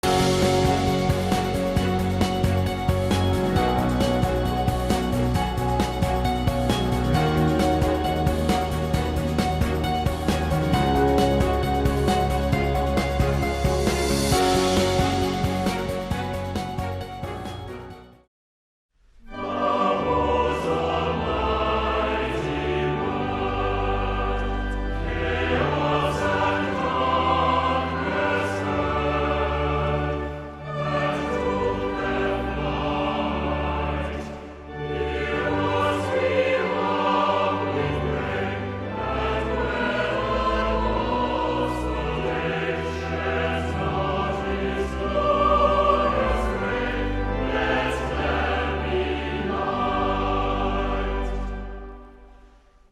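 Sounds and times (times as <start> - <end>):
choir with orchestra: 0.0 - 17.9, 19.2 - 52.9.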